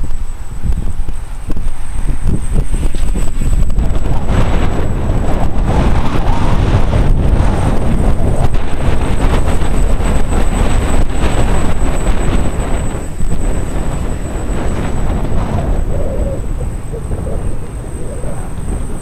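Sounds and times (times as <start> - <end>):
quadcopter motors running: 0.0 - 19.0
thin high whine: 0.0 - 19.0
wind buffeting microphone: 0.0 - 19.0.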